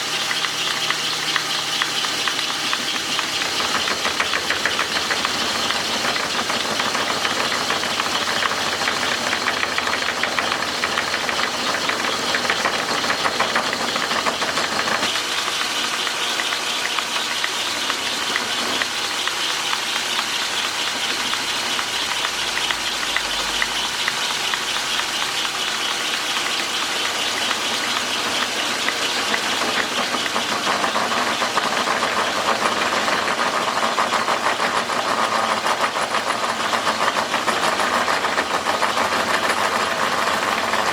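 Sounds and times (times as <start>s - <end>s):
metal lathe cutting: 0.0s - 40.9s.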